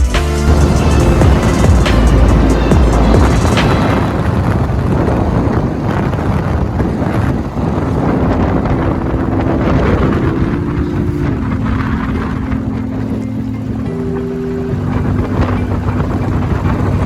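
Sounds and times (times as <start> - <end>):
steady low tones: 0.0 - 17.0
vehicle rumble on road: 0.0 - 17.0
wind buffeting microphone: 0.5 - 17.0.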